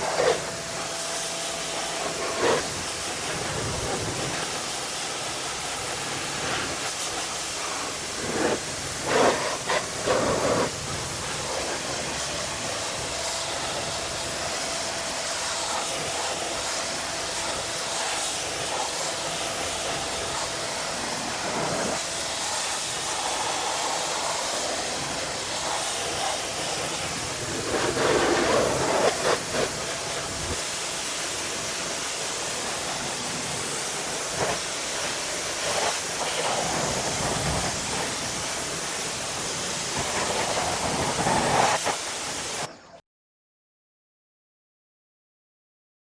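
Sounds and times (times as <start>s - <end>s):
pressure washer spraying water: 0.0s - 42.7s.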